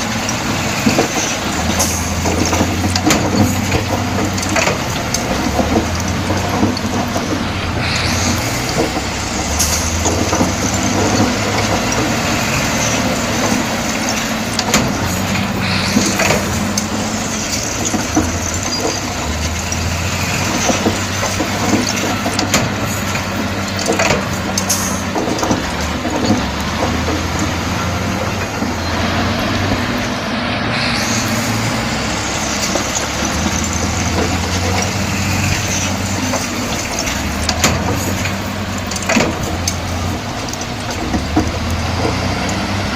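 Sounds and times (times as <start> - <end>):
sharp metal clanks and knocks: 0.0 - 28.9, 32.2 - 42.9
bulldozer diesel engine running: 0.0 - 42.9.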